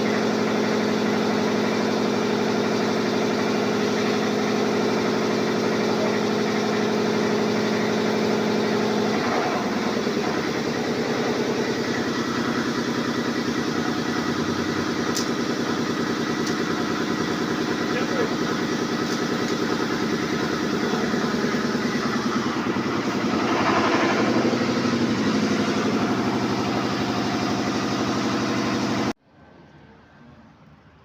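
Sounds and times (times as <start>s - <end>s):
small petrol engine idling: 0.0s - 29.2s.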